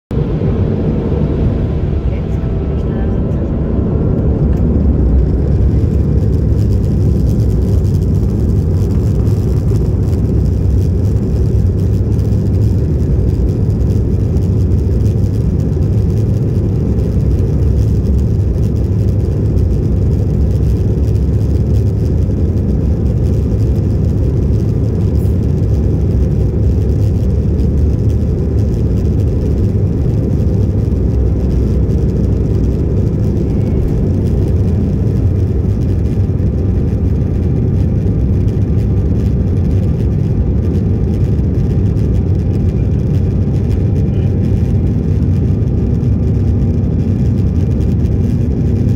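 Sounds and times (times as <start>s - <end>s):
aircraft engines rumbling: 0.1s - 48.9s.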